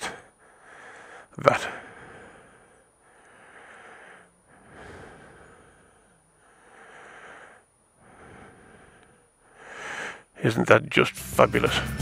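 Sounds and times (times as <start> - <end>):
person breathing close to microphone: 0.0 - 10.4.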